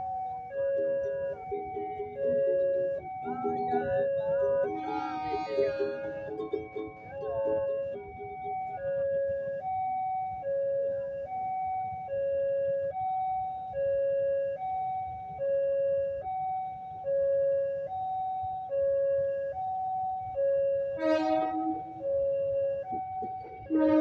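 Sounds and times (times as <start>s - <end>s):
electronic two-tone alarm: 0.0s - 24.0s.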